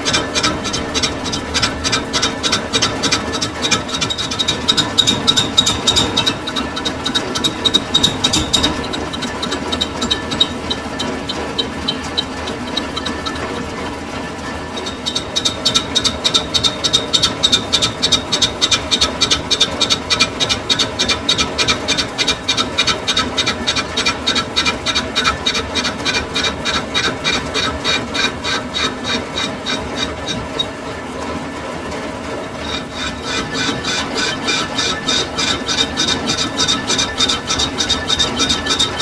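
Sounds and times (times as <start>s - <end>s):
lathe humming: 0.0s - 39.0s
lathe tool squealing on metal: 0.0s - 39.0s.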